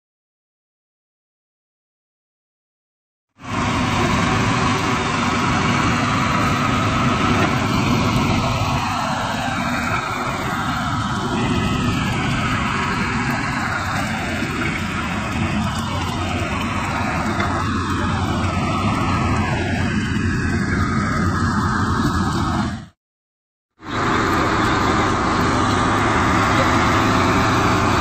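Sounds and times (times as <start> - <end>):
tractor engine running: 3.4 - 22.9, 23.8 - 28.0
backhoe loader working: 3.4 - 23.0, 23.8 - 28.0.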